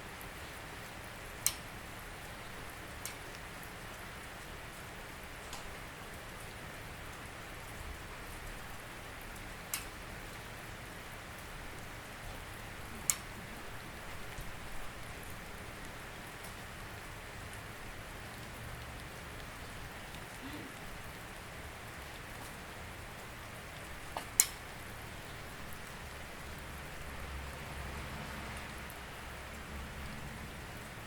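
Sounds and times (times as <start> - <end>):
steady rain hiss: 0.0 - 31.0
sharp raindrop strikes: 0.1 - 31.0.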